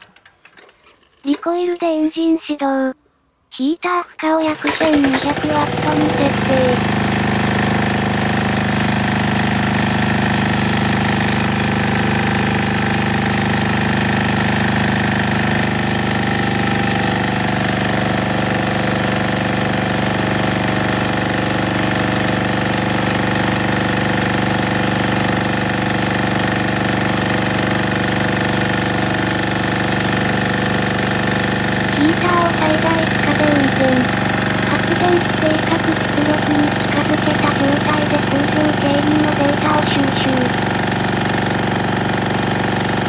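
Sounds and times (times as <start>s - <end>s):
diesel engine running: 4.4s - 43.0s.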